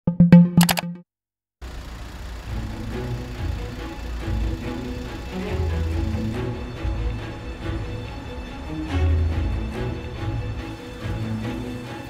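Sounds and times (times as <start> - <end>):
street traffic rumble: 1.6 - 12.0.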